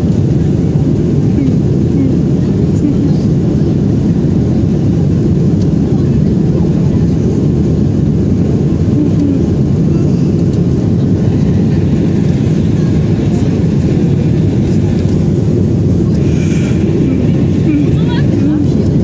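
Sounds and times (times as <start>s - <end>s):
jet engines and airflow in cabin: 0.0s - 19.0s.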